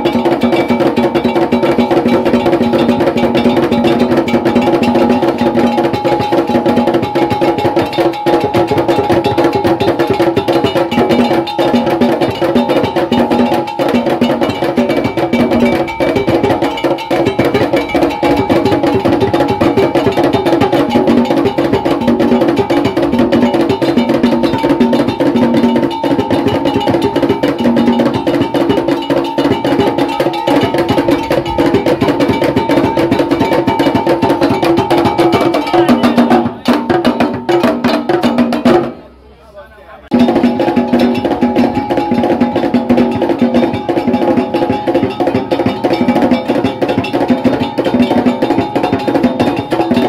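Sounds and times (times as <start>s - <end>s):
drums and percussion beat: 0.0s - 50.0s.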